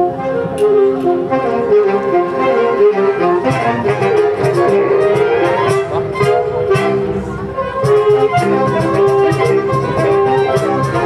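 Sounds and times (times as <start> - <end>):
saxophone ensemble playing latin music: 0.0 - 11.0.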